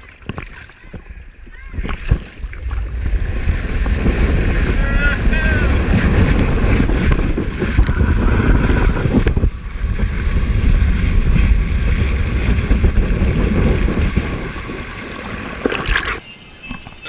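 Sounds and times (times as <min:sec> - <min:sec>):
muffled rush of water: 0:00.0 - 0:17.0
wind on microphone: 0:00.0 - 0:17.0.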